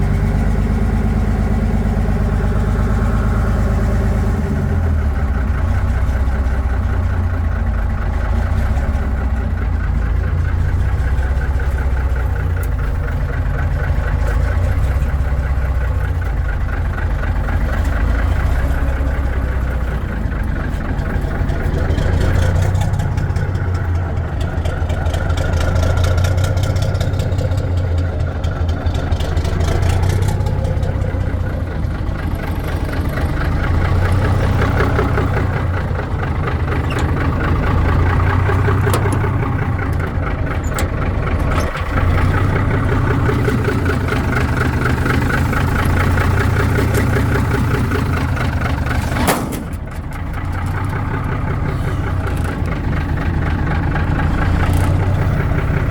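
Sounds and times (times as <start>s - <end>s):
truck engine idling: 0.0s - 55.9s.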